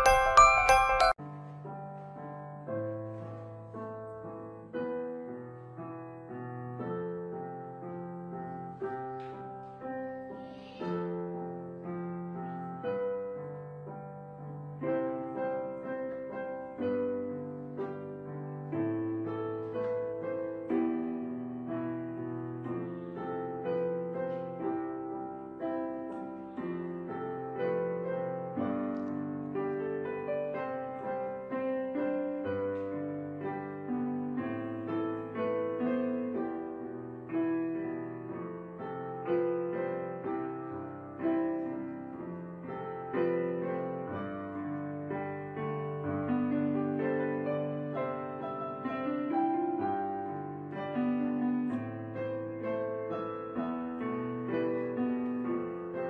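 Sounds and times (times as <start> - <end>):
solo piano music: 0.0 - 56.0.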